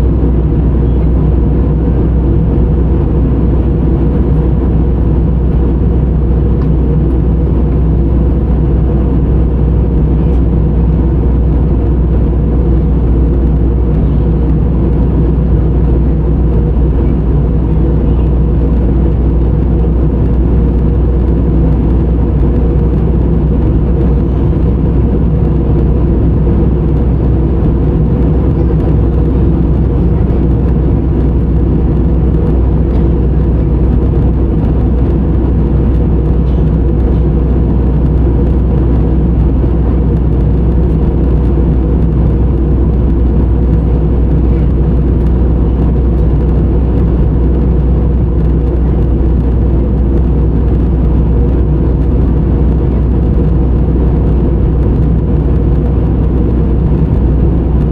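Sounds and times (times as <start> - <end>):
jet airliner cabin drone: 0.0 - 57.9.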